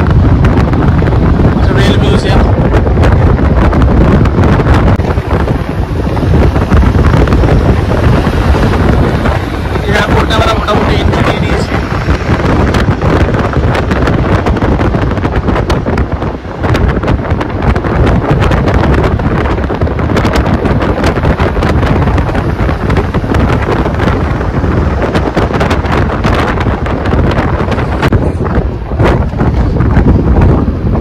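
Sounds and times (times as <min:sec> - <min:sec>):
car running noise: 0:00.0 - 0:31.0
wind buffeting microphone: 0:00.0 - 0:31.0.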